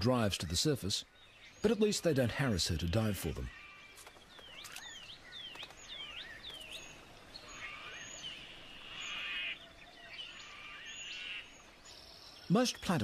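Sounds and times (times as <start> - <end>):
quiet outdoor ambience: 0.0 - 13.0.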